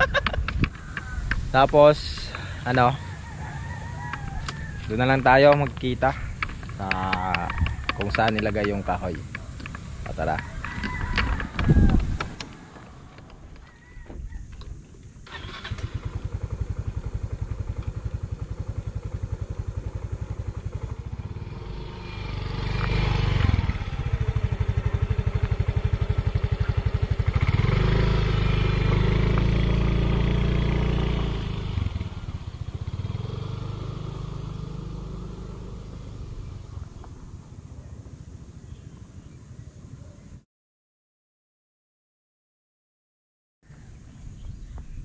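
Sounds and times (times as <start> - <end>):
scooter engine starting and revving: 0.0 - 13.8, 15.1 - 39.9.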